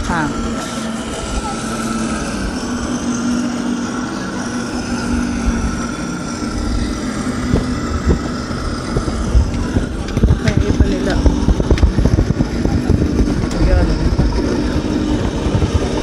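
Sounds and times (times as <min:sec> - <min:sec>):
model tanks droning: 0:00.0 - 0:16.0.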